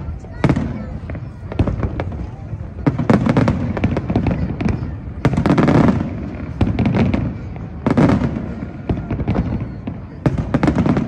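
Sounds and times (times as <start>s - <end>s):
fireworks booming and cracking: 0.0s - 11.0s.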